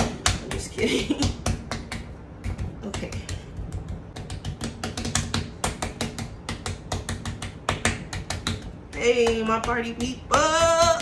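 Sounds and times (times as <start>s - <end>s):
hand patting dough on stone: 0.0s - 11.0s.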